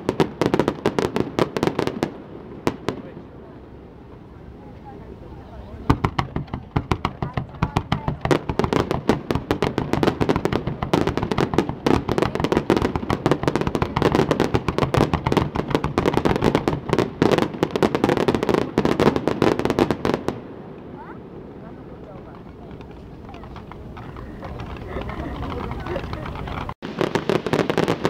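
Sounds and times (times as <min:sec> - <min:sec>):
fireworks cracking and banging: 0:00.0 - 0:04.6, 0:05.7 - 0:28.0.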